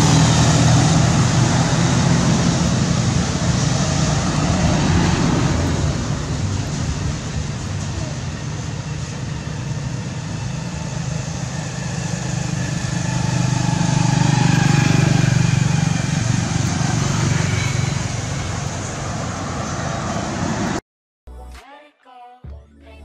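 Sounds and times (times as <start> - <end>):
vehicle engine drone: 0.0 - 20.8.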